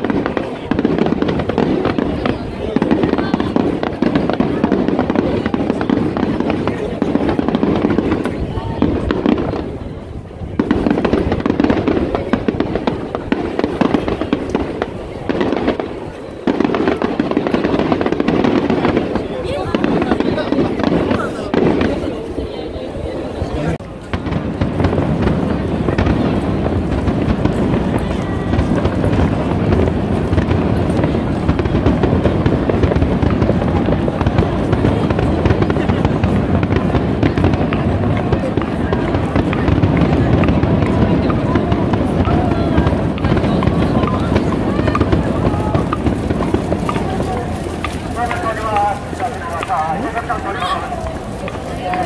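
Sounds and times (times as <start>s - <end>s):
fireworks bursting and crackling: 0.0s - 52.0s.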